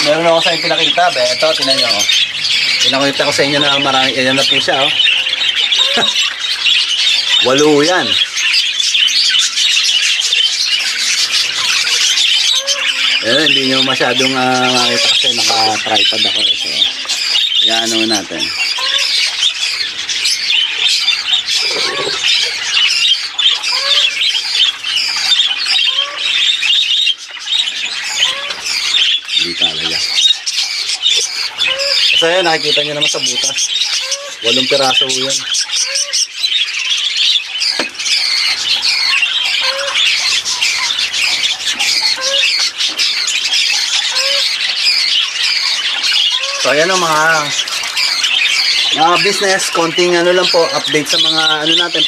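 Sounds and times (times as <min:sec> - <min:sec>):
budgerigars chattering and squawking: 0:00.0 - 0:52.0
low bird calls: 0:00.0 - 0:52.0.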